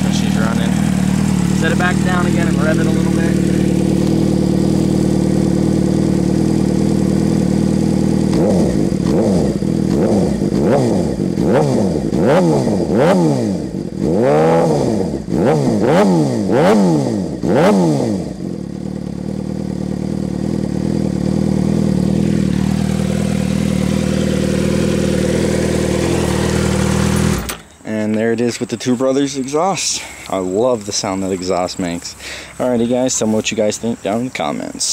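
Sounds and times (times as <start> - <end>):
motorcycle engine idling: 0.0 - 15.8, 17.2 - 34.9
motorcycle throttle blips: 0.0 - 29.0.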